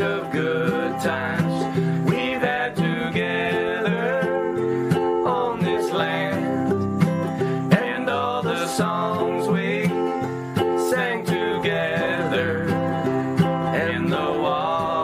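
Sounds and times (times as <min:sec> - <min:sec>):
plucked acoustic guitar: 0:00.0 - 0:15.0
sliding melody line: 0:00.0 - 0:15.0.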